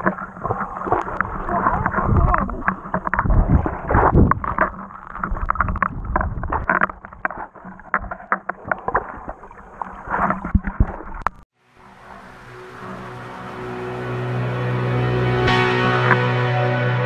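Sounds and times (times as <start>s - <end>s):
muffled underwater rumble: 0.0s - 7.3s, 8.6s - 16.2s.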